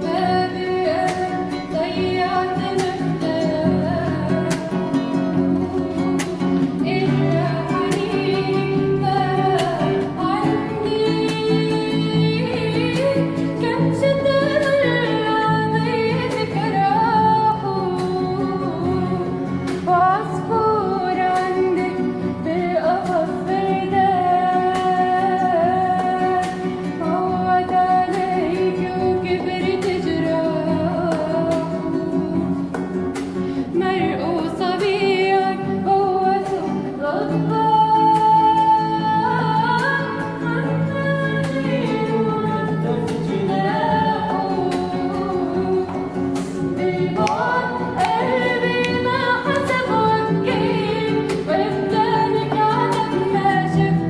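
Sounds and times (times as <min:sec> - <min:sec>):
plucked strings: 0:00.0 - 0:54.0
woman singing: 0:00.0 - 0:54.0.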